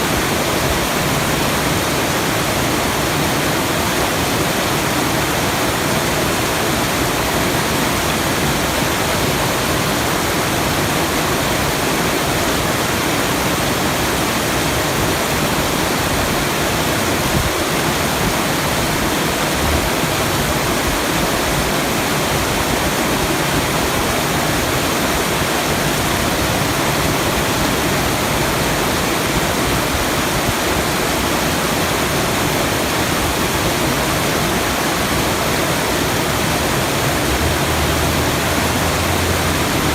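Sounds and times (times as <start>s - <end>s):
waterfall-like rushing noise: 0.0s - 39.9s.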